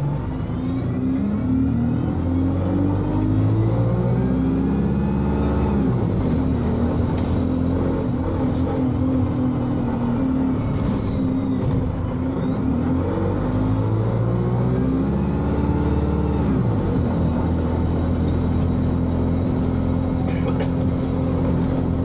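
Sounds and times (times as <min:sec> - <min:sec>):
bus engine running hard: 0:00.0 - 0:22.0.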